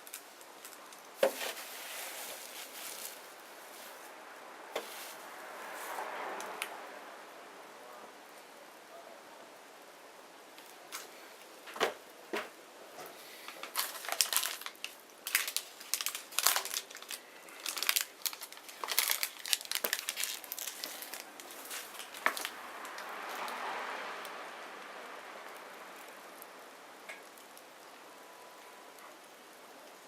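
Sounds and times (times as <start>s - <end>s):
bonfire crackling and popping: 0.0s - 4.2s, 9.8s - 30.0s
soft rushing hiss: 0.0s - 30.0s.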